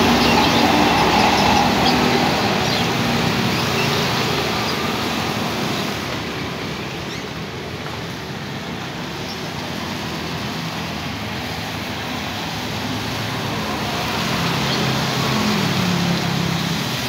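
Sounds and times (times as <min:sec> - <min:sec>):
bus engine hum: 0:00.0 - 0:17.0
motorcycle engines: 0:00.0 - 0:17.0.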